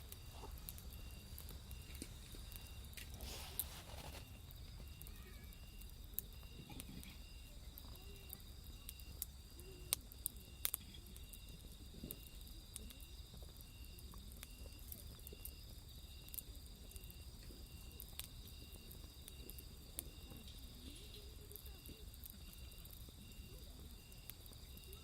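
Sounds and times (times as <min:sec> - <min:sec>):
night insects chirping: 0:00.0 - 0:25.0
short repeating insect chirp: 0:00.0 - 0:25.0
wood fire crackling and popping: 0:00.0 - 0:25.0.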